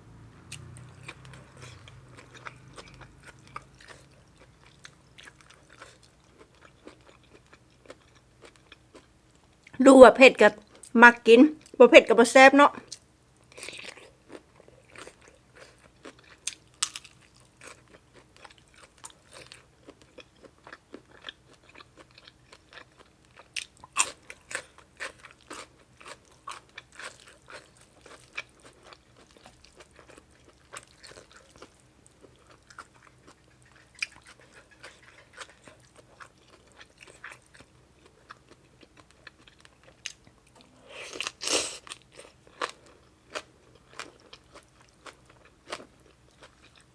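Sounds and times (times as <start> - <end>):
crunching and chewing food: 0.1 - 9.8, 12.8 - 46.9.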